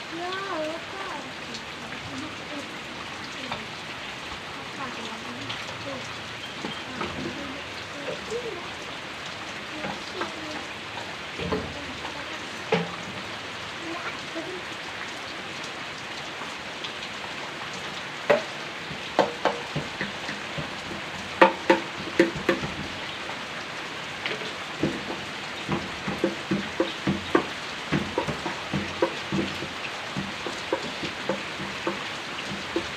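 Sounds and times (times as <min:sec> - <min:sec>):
heavy rain hissing: 0:00.0 - 0:32.9.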